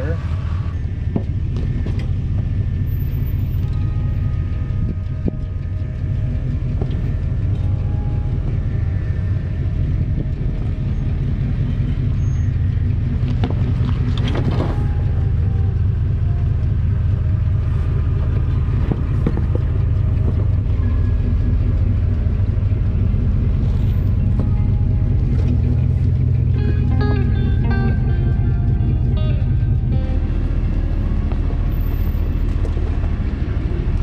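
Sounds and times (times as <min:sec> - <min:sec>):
pickup engine rumbling: 0:00.0 - 0:34.0
body and suspension creaks and knocks: 0:00.7 - 0:08.8, 0:10.0 - 0:26.8, 0:31.1 - 0:34.0.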